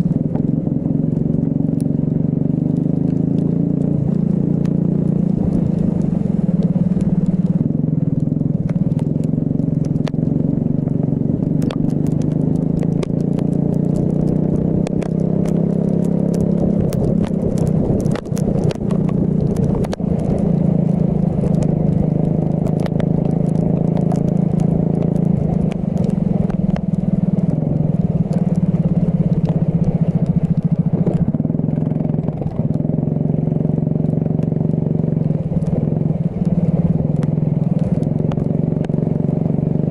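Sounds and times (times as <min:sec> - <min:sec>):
clicks and crackles: 0:00.0 - 0:39.9.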